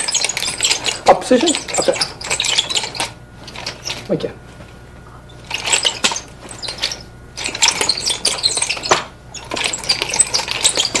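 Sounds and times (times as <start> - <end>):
wooden nunchaku rattling and clicking: 0.0 - 4.7, 5.4 - 11.0.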